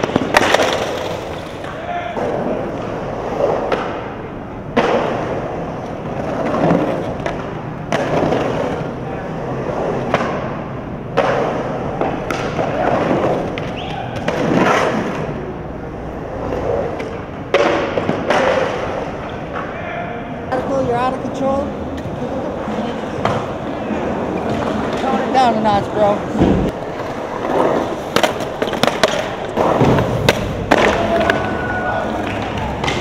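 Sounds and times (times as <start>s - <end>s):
skateboard wheels rolling on concrete: 0.0s - 33.0s.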